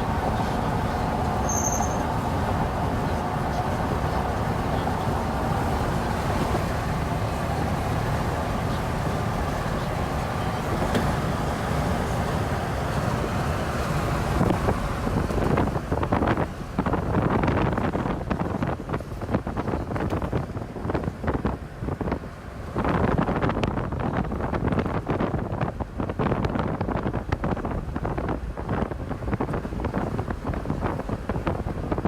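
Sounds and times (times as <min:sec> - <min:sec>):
vehicle road noise rumble: 0:00.0 - 0:32.0
wind buffeting microphone: 0:00.0 - 0:32.0.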